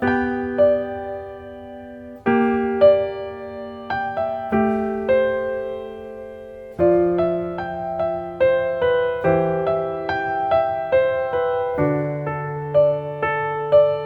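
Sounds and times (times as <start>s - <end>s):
slow calm piano music: 0.0s - 14.0s.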